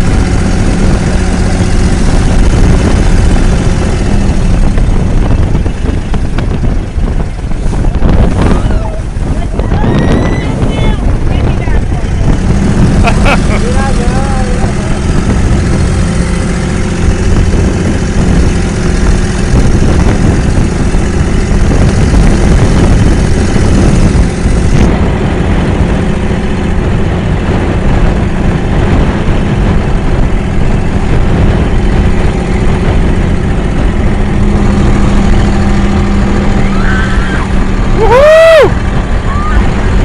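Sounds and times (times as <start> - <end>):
boat engine rumbling: 0.0 - 40.0.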